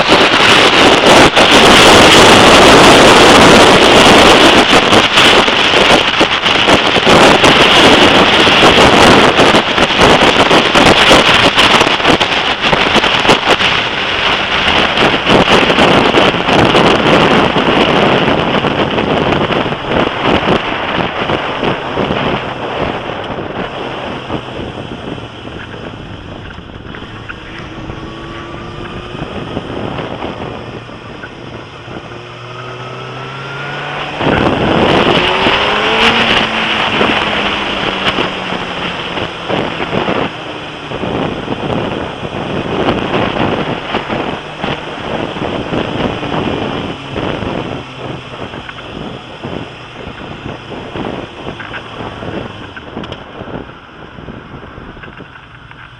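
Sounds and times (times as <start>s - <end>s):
motorcycle engine accelerating: 0.0s - 55.9s
wind noise on microphone: 0.0s - 55.9s.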